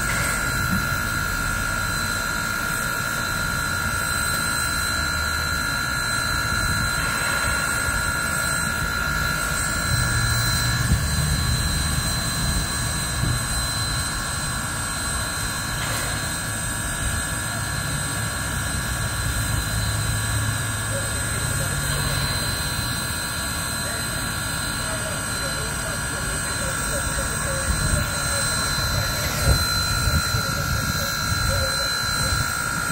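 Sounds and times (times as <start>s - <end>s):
high whining tones: 0.0s - 32.9s
steam locomotive roar and hiss: 0.0s - 32.9s.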